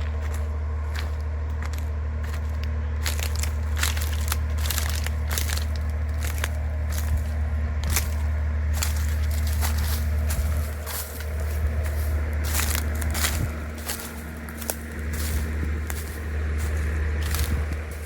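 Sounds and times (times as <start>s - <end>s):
crunching and crackling clicks: 0.0s - 18.0s
steady low hum: 0.0s - 18.0s.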